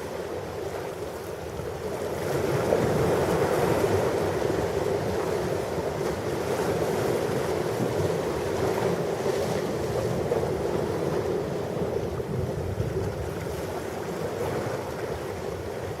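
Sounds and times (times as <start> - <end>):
ocean waves washing on shore: 0.0 - 16.0.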